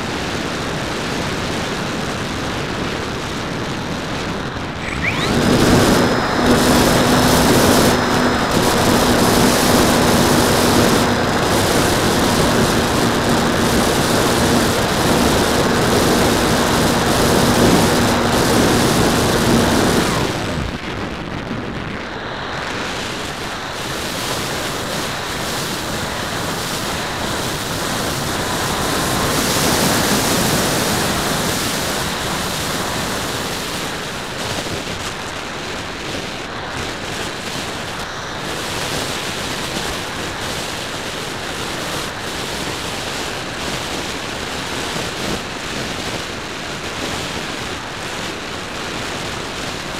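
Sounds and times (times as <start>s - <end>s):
rushing air: 4.3s - 20.9s, 21.8s - 49.9s
electric motor and propeller: 4.6s - 20.8s, 22.2s - 49.9s.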